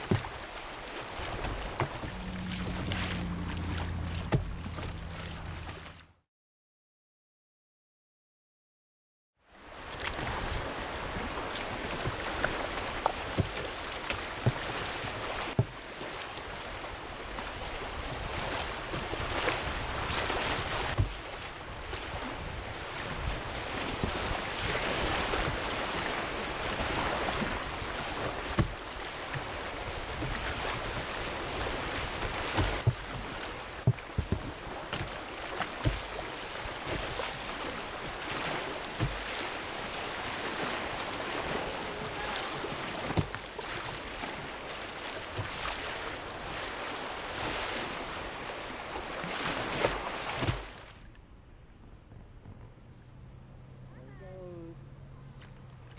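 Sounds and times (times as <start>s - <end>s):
whitewater rushing: 0.0s - 5.9s, 9.7s - 50.8s
water slapping hull: 0.0s - 6.2s, 9.6s - 51.1s.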